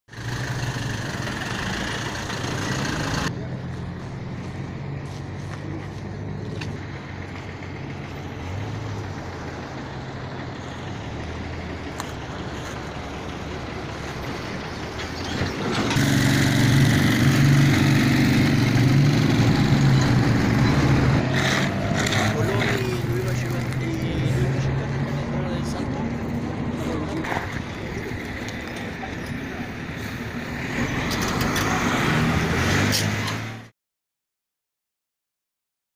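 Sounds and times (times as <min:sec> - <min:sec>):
motor vehicle engine running: 0:00.1 - 0:31.8
street noise: 0:00.1 - 0:33.7.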